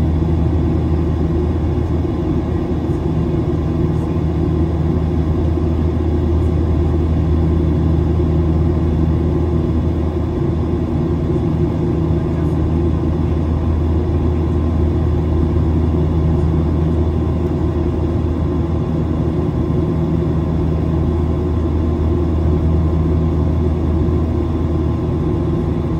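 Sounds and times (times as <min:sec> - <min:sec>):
jet engines droning: 0:00.0 - 0:25.9.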